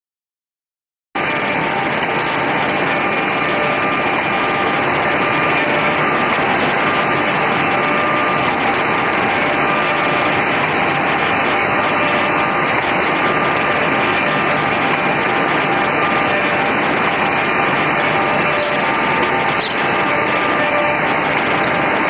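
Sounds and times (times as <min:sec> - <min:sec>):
machine hissing and humming: 0:01.2 - 0:22.0.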